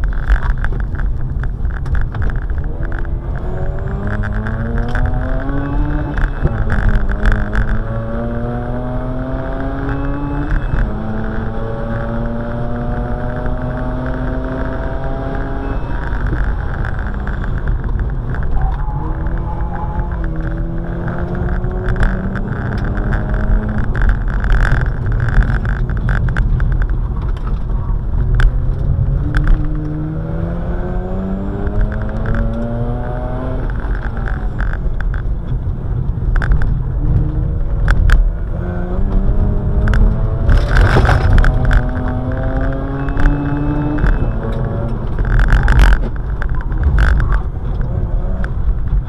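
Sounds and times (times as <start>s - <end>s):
car engine accelerating: 0.0s - 49.0s
road and tyre rumble: 0.0s - 49.0s
sharp clicks and knocks: 0.0s - 49.0s.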